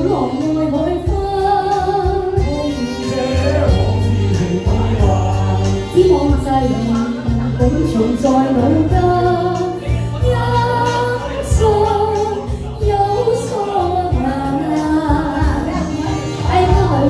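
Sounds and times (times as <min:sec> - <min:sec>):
karaoke backing track: 0:00.0 - 0:17.0
woman singing into microphone: 0:00.0 - 0:17.0.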